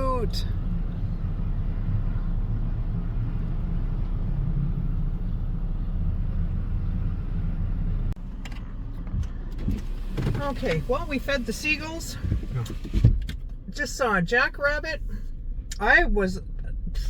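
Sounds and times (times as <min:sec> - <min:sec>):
car engine rumble inside cabin: 0:00.0 - 0:17.0.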